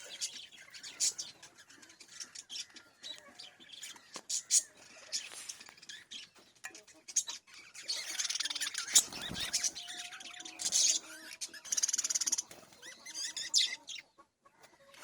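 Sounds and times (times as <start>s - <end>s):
budgerigars chattering and chirping: 0.0s - 15.0s.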